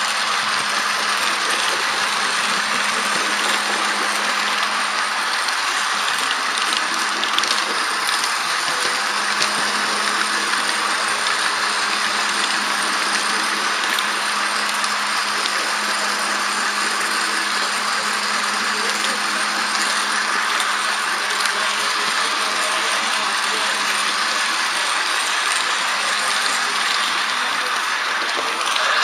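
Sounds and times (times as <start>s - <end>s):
model locomotive motor hum: 0.0s - 29.0s.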